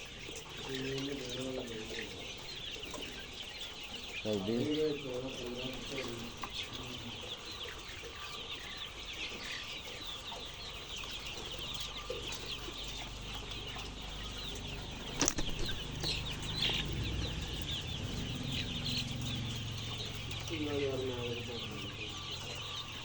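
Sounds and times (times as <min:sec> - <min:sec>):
chicks cheeping: 0:00.0 - 0:23.0.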